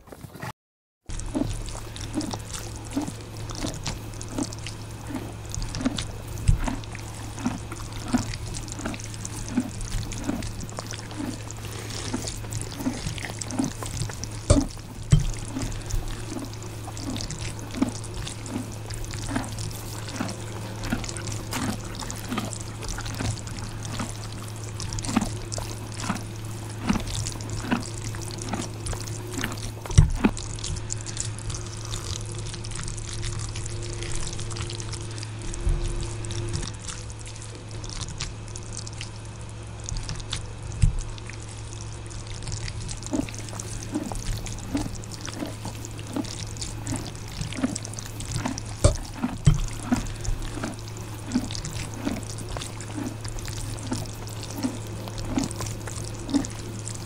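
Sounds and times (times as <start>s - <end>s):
person sipping: 1.1s - 32.6s, 42.6s - 57.0s
wet slurping: 1.1s - 39.2s, 39.8s - 57.0s
chewing: 1.1s - 57.0s
steady low hum: 1.1s - 57.0s.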